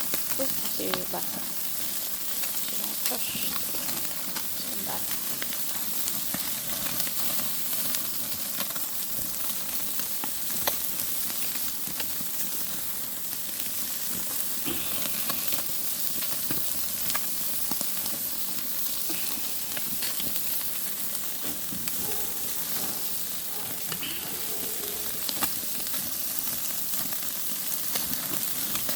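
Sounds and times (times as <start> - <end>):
seafood sizzling on a grill: 0.0 - 28.9
sharp crackles and pops: 0.0 - 28.9.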